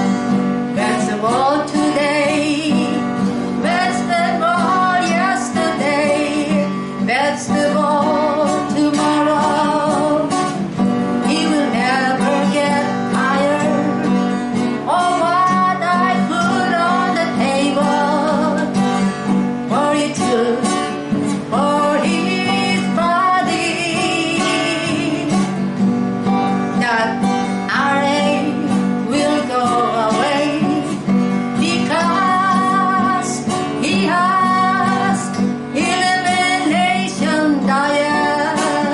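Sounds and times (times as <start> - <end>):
woman singing: 0.0 - 25.7, 26.5 - 38.9
acoustic guitar strumming: 0.0 - 38.9.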